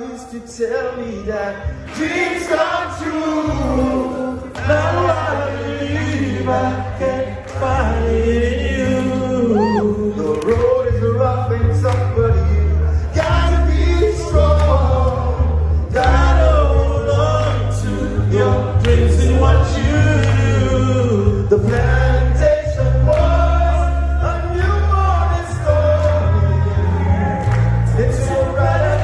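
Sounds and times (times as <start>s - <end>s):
men singing together: 0.6s - 29.0s
backing music with heavy bass: 1.7s - 29.0s.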